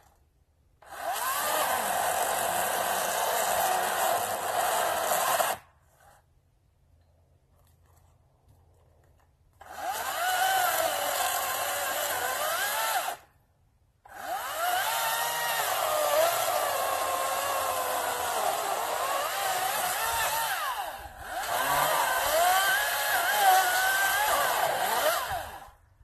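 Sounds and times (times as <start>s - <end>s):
chainsaw cutting into tree trunk: 0.8s - 6.2s, 9.6s - 13.3s, 14.1s - 25.8s.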